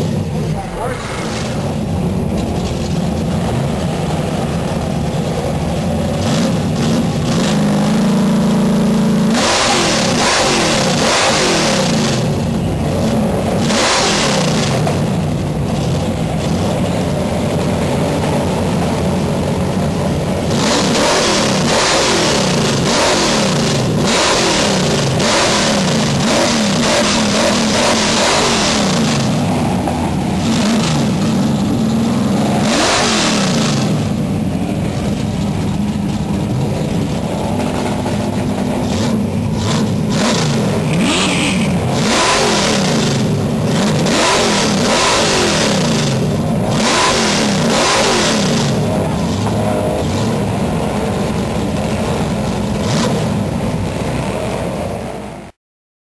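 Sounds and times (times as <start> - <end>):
car engine revving: 0.0 - 55.6.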